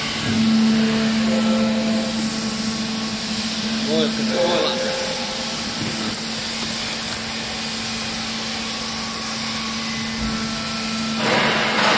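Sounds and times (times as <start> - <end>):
machine humming and hissing: 0.0 - 11.9.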